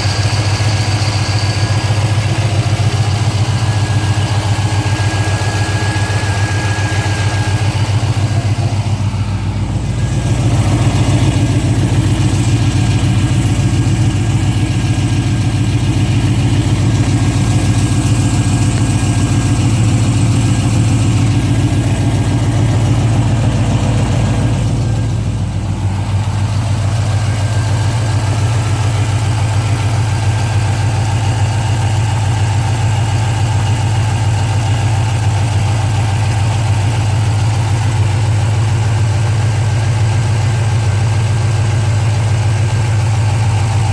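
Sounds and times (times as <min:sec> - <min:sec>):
car engine idling: 0:00.0 - 0:43.9
engine ticking: 0:00.0 - 0:43.9.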